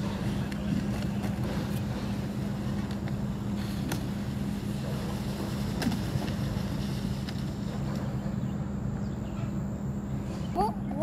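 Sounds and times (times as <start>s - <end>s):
low mechanical hum: 0.0s - 11.0s
noisy background: 0.0s - 11.0s.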